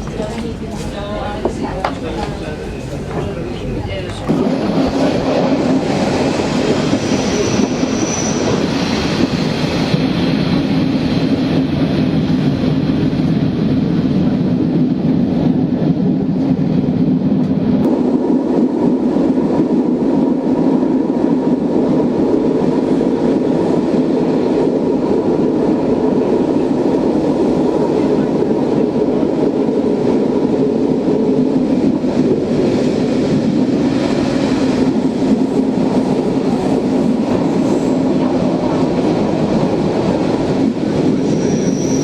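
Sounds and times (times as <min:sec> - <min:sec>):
train rolling on track: 0:00.0 - 0:42.0.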